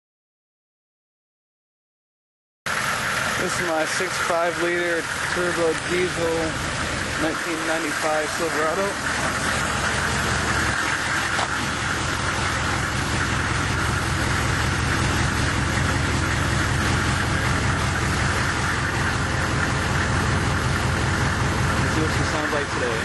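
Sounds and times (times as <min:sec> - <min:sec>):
diesel engine idling: 0:02.7 - 0:23.0.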